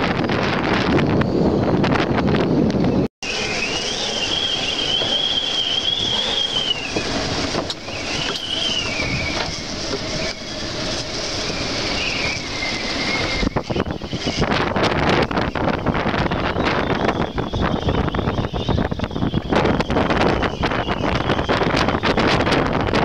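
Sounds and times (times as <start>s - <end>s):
wind blowing over microphone: 0.0s - 23.0s
high wavering whistle: 0.9s - 22.6s.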